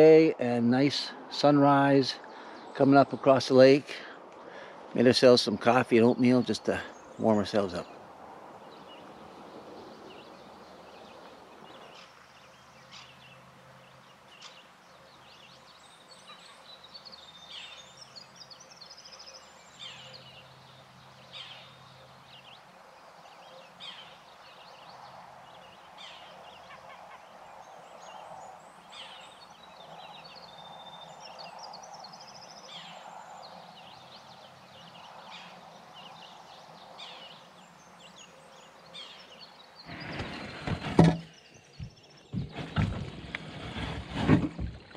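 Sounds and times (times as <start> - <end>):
birds chirping and trilling: 0.8 - 44.9.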